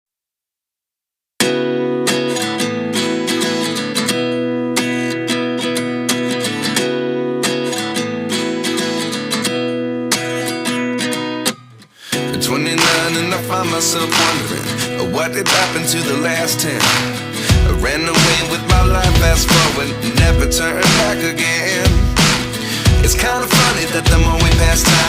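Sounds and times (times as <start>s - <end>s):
acoustic guitar music: 1.4s - 25.0s.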